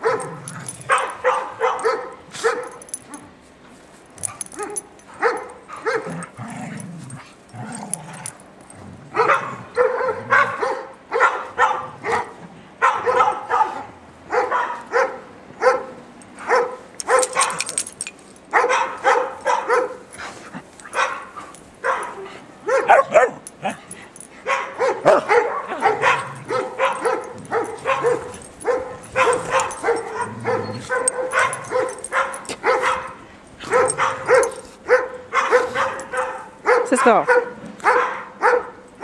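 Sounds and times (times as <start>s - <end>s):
dogs barking and yipping: 0.0s - 3.5s, 4.2s - 39.0s.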